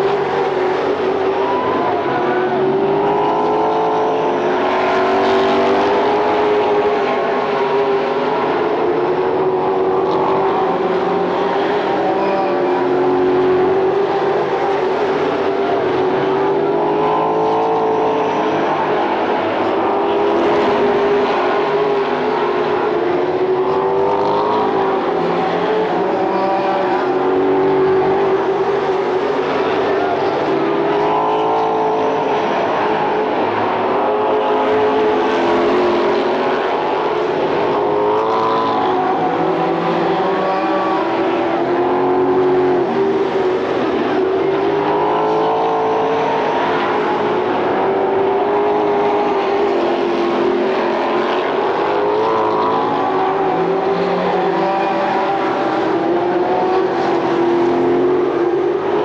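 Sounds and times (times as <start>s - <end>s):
race car engines roaring: 0.0s - 59.0s.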